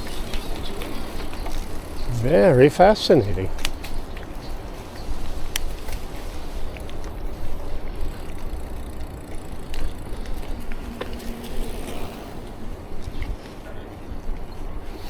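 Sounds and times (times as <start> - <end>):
bicycle rolling noise: 0.0 - 15.0.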